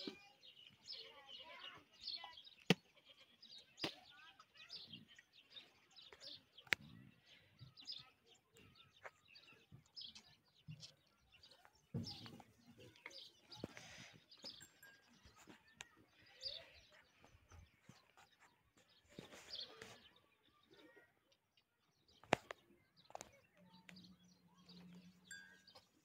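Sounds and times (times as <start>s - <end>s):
faint small birds chirping: 0.0s - 26.0s.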